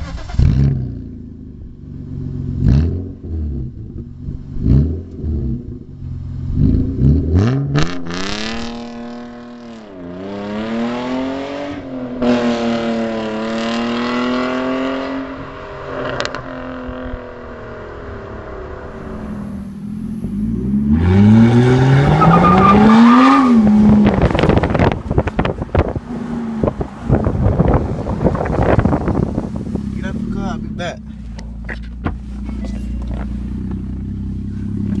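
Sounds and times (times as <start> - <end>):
car accelerating away: 0.0 - 35.0
car engine revving: 0.0 - 35.0.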